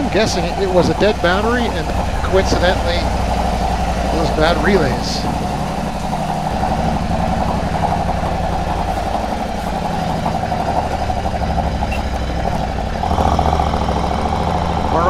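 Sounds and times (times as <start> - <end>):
motorcycle engine riding off: 0.0 - 15.0.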